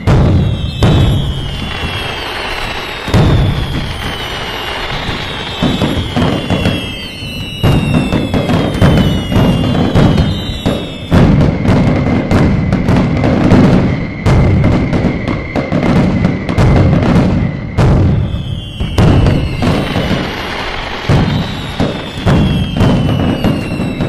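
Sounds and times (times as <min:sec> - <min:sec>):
fireworks booming and banging: 0:00.0 - 0:24.0
whistling rockets falling in pitch: 0:00.0 - 0:24.0.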